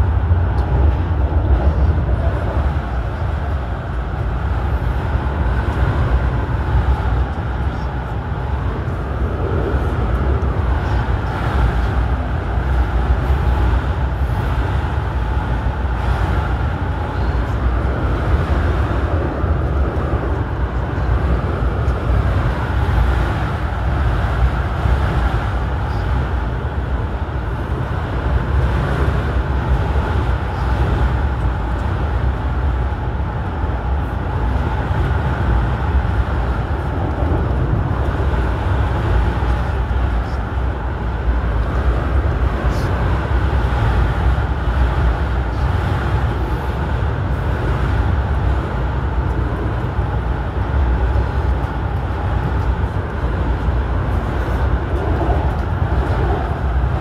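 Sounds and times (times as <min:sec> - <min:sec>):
electric train running at speed: 0:00.0 - 0:57.0.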